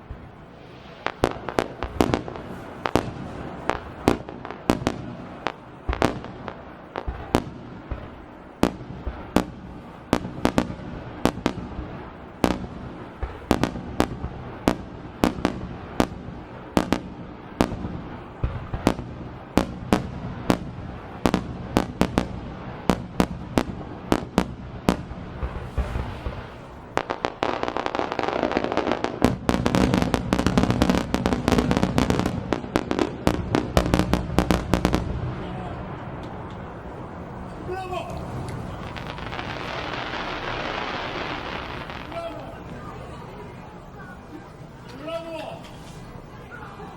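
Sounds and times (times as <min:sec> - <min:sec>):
fireworks bursting: 0:00.0 - 0:46.9
fireworks rumble and crackle: 0:00.0 - 0:46.9.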